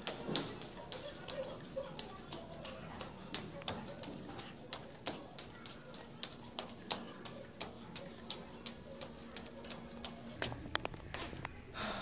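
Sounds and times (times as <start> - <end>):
footsteps climbing stairs: 0.0 - 11.3.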